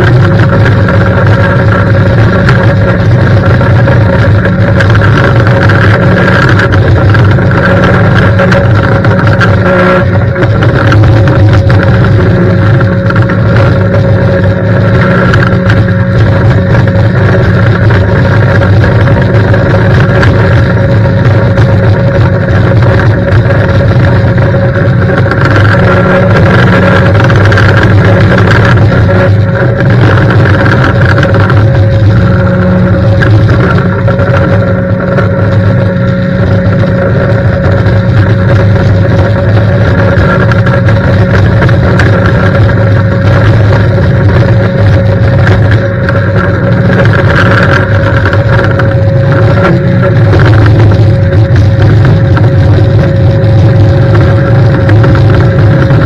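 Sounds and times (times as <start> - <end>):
pressure washer surface cleaner drone: 0.0 - 56.0.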